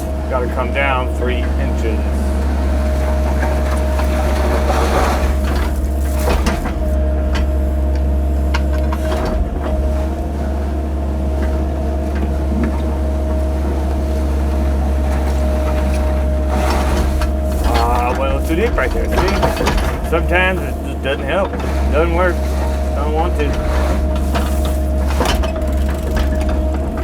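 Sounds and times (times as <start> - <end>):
bucket scraping knocks: 0.0 - 7.5, 12.3 - 27.0
steady whine: 0.0 - 9.9, 13.6 - 27.0
excavator diesel engine running: 0.0 - 27.0.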